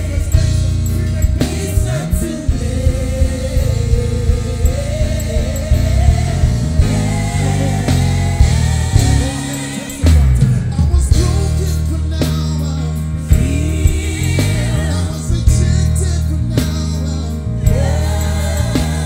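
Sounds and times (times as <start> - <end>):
electric bass line: 0.0 - 19.0
live gospel band playing: 0.0 - 19.0
voices singing: 0.0 - 19.0.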